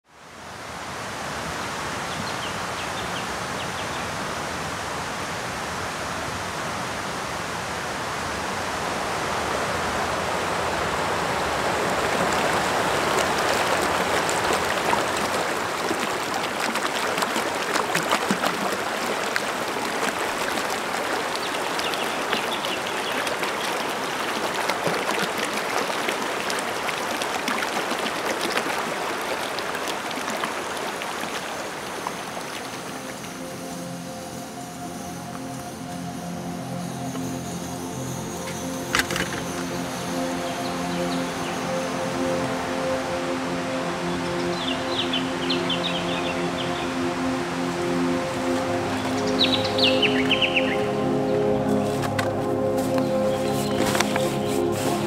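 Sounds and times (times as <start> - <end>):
river rushing over rocks: 0.1 - 55.0.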